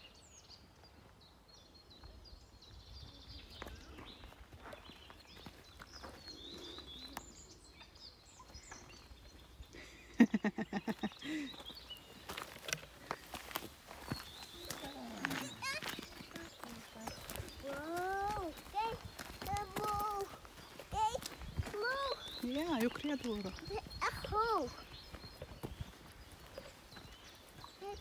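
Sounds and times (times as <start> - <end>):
songbirds chirping faintly: 0.0 - 28.0.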